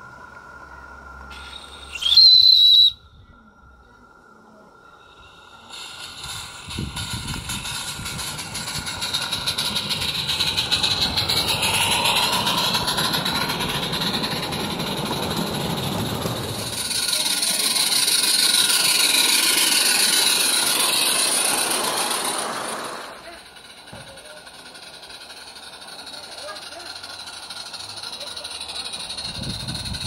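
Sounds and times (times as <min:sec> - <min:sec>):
steam locomotive chuffing: 0:00.0 - 0:03.0, 0:03.7 - 0:30.0
wagon wheels rumbling on track: 0:05.4 - 0:30.0.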